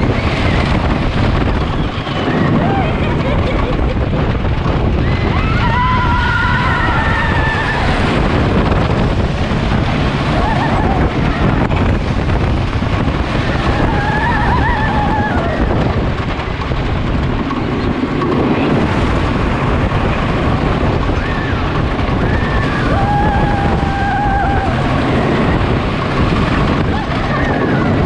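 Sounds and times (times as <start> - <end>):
roller coaster wheels rumbling: 0.0 - 28.0
wind buffeting microphone: 0.0 - 28.0.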